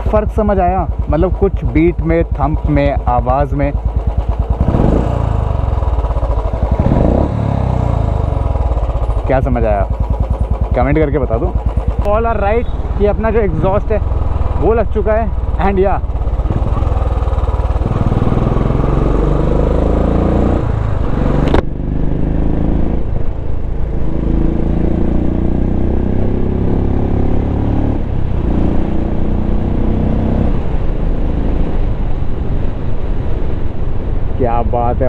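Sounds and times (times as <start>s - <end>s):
motorcycle engine accelerating: 0.0s - 33.6s.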